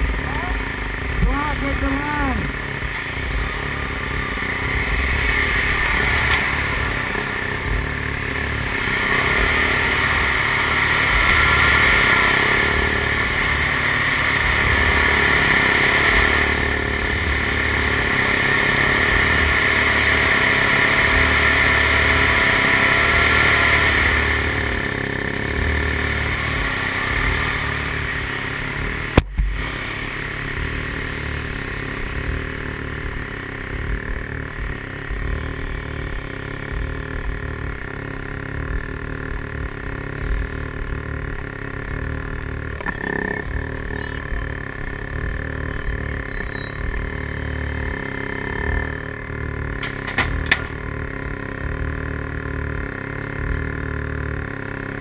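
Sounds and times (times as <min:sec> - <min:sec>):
motor rumbling: 0:00.0 - 0:55.0.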